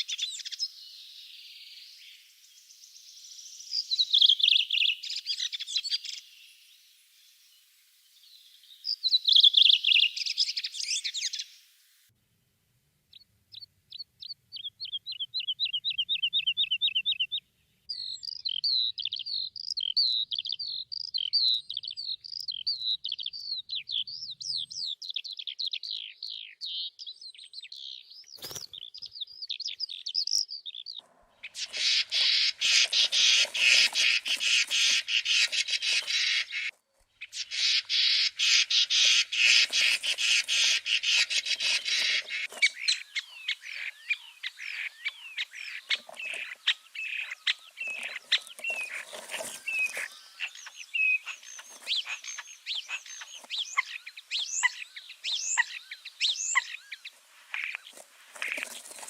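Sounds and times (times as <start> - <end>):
songbirds singing: 0.0 - 12.0, 13.1 - 59.0.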